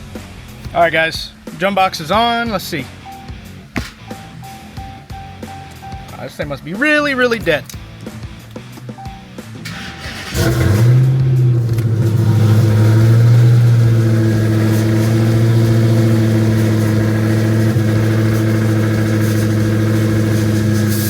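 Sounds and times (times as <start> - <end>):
car engine starting and idling: 0.0 - 21.0.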